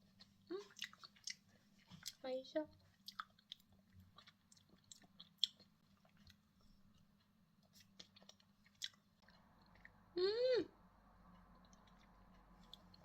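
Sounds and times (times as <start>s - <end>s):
faint wet chewing: 0.0s - 10.1s, 11.2s - 13.0s.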